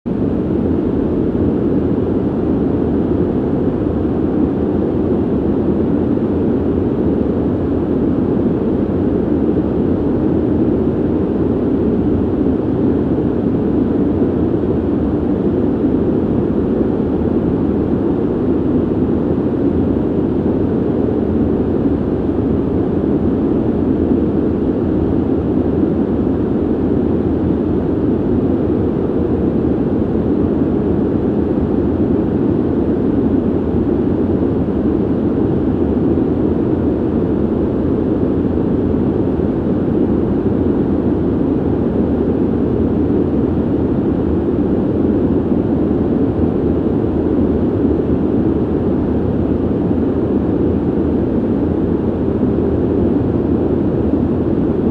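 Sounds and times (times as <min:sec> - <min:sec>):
ventilation air rushing: 0:00.1 - 0:54.9.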